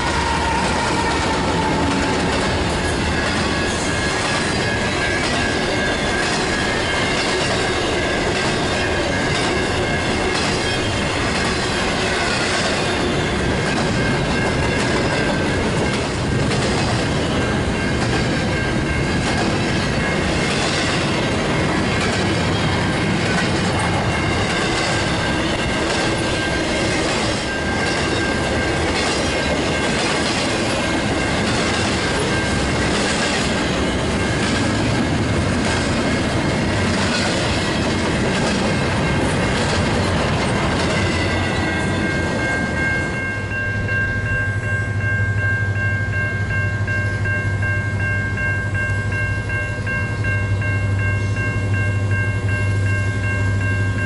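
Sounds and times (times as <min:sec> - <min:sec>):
freight train rolling on rails: 0:00.0 - 0:54.0.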